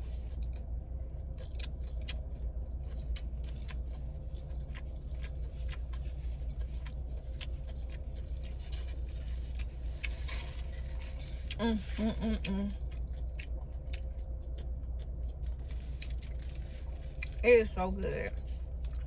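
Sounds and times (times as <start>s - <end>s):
low hum inside car: 0.0s - 19.0s
chewing with wet mouth clicks: 0.2s - 17.4s, 18.7s - 19.0s.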